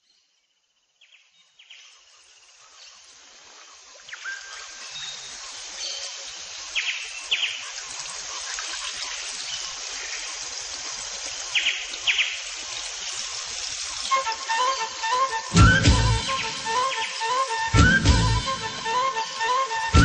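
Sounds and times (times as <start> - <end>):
insects hissing: 1.6 - 20.0.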